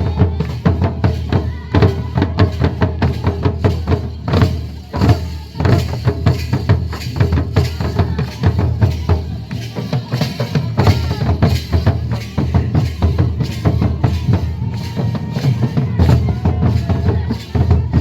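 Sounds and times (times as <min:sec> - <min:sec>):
folk drums beating: 0:00.0 - 0:18.0.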